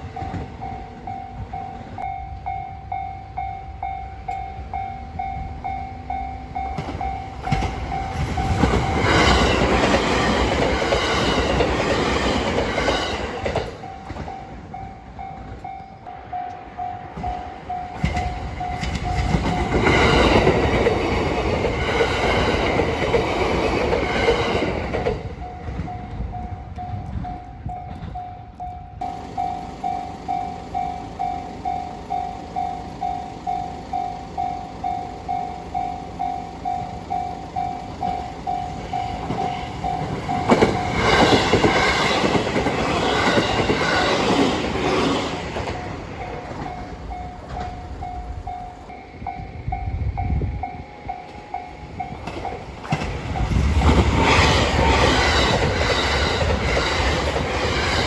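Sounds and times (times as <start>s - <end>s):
crossing warning bell dinging: 0.0s - 58.0s
train wheels on rails: 0.0s - 58.0s.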